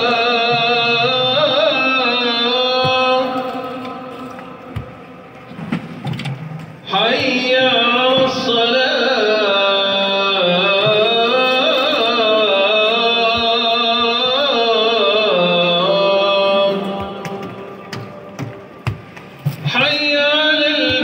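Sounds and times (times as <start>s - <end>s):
person chanting: 0.0s - 4.7s, 6.9s - 18.2s, 19.6s - 21.0s.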